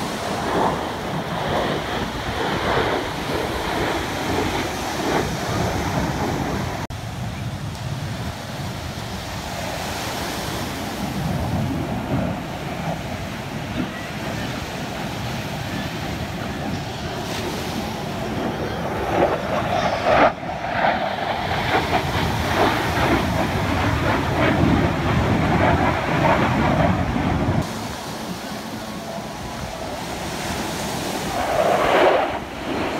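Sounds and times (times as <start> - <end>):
distant jet aircraft roar: 0.0 - 32.9.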